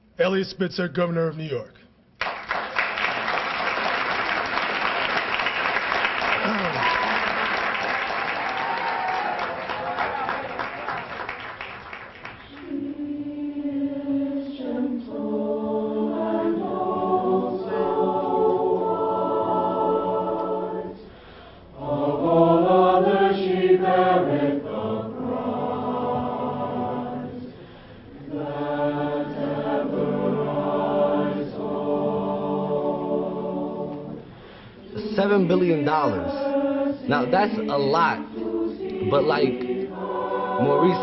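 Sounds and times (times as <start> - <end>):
choir singing held chords: 3.6 - 41.0.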